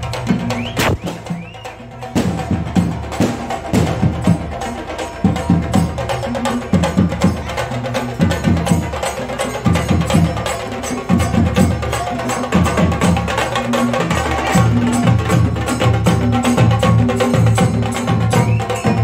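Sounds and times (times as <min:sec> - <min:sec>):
drum ensemble playing fast rhythm: 0:00.0 - 0:19.0.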